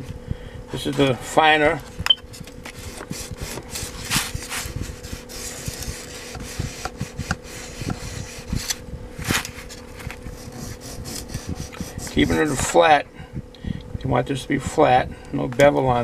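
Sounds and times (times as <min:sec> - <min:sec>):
small fan humming: 0:00.0 - 0:16.0.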